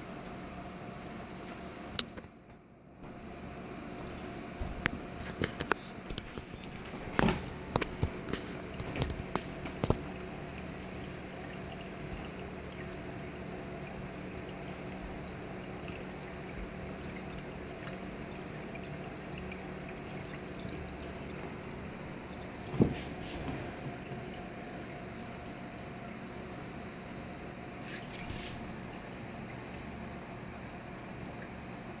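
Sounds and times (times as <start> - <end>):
water trickling and dripping: 6.2 - 32.0.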